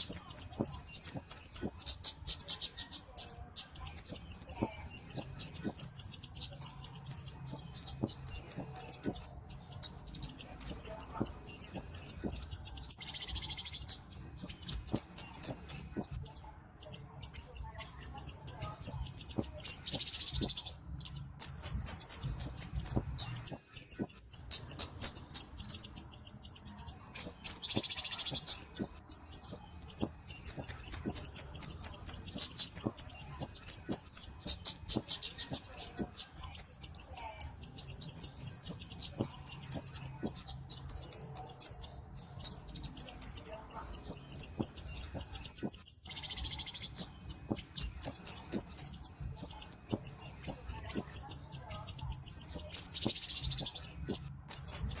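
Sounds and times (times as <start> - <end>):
bird ticking chips: 0.0 - 55.0.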